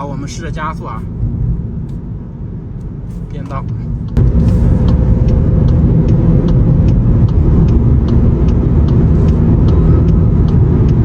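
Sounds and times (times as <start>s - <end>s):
road and drivetrain rumble: 0.0s - 11.0s.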